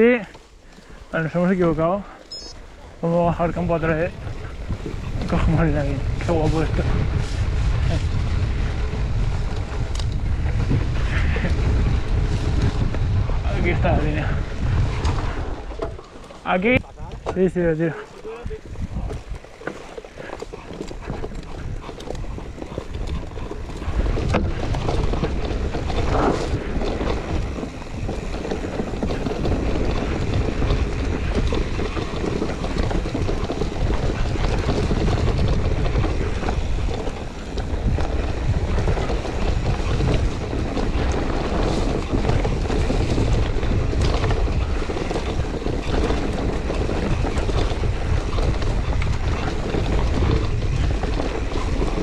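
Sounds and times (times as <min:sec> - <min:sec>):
bike knocking and rattling: 0:00.0 - 0:52.0
wind buffeting microphone: 0:00.0 - 0:52.0.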